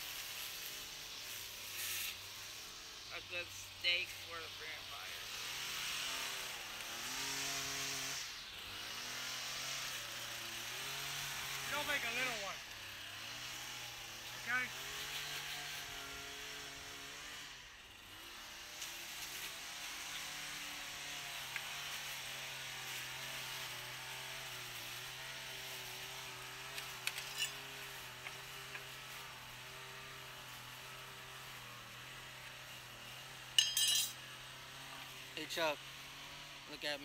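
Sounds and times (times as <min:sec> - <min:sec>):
small engine droning: 0:00.0 - 0:37.0.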